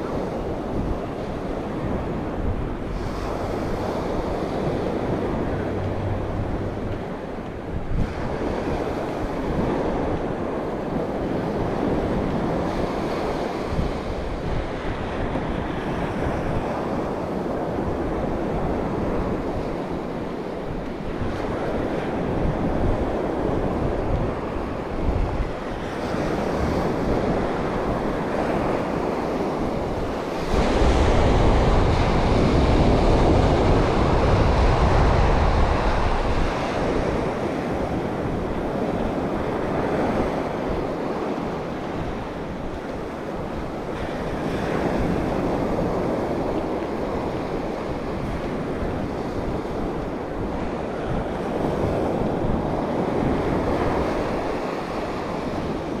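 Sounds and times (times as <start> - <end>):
surf breaking on shore: 0.0 - 20.0, 21.1 - 56.0
wind buffeting microphone: 0.0 - 56.0.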